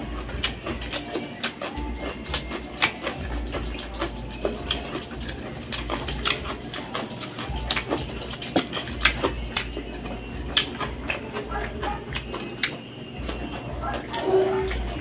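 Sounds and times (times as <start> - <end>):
person chewing with wet smacks: 0.0 - 15.0.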